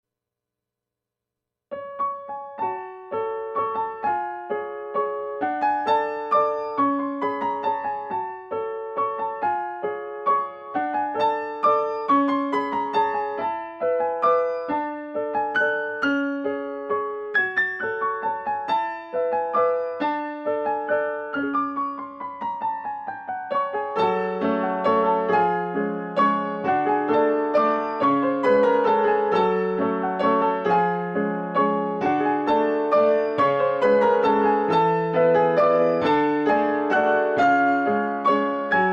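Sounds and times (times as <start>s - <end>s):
soft piano chords: 1.7s - 38.9s.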